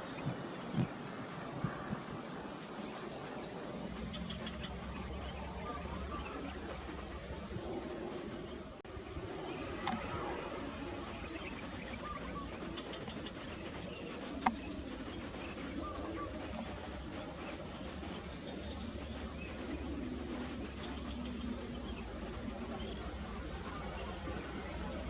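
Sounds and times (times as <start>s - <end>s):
insect chorus droning: 0.0s - 25.0s.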